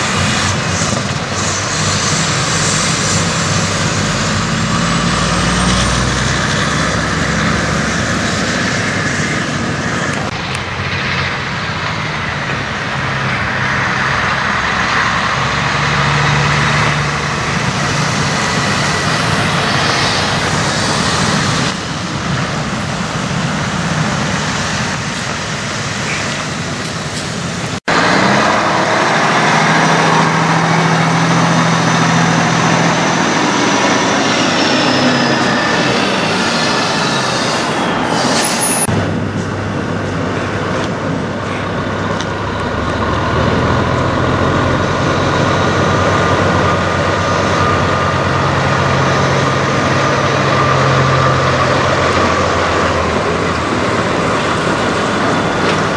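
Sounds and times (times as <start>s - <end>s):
close diesel truck engine: 0.0s - 55.9s
diesel trucks passing on highway: 0.0s - 55.9s.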